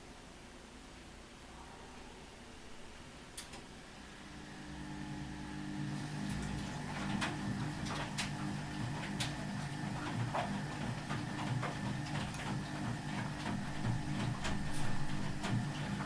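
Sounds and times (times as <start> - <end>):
washing machine motor hum: 2.0 - 16.0.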